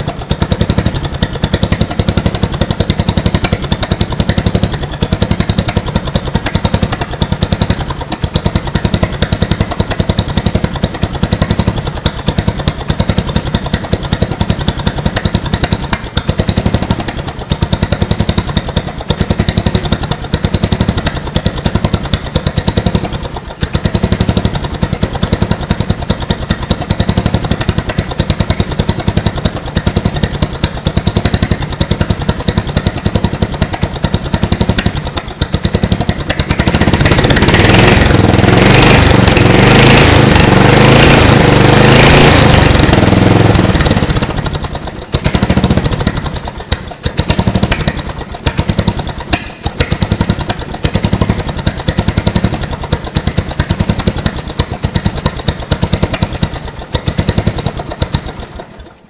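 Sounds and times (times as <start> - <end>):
lawn mower engine idling unevenly: 0.0 - 59.0.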